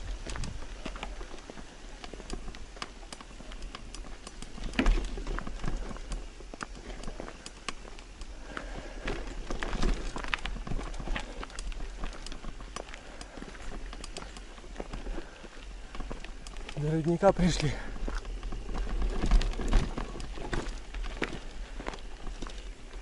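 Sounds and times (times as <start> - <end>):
footsteps on stony trail: 0.0 - 23.0.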